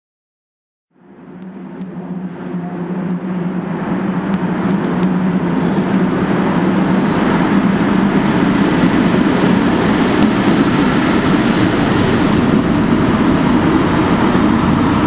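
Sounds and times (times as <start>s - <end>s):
steady low hum: 0.9s - 15.0s
train wheels rumbling on rail: 1.0s - 15.0s.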